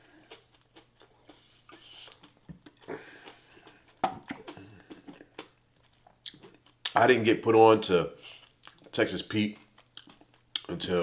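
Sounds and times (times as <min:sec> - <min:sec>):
person chewing food: 0:00.0 - 0:07.0, 0:08.2 - 0:11.0.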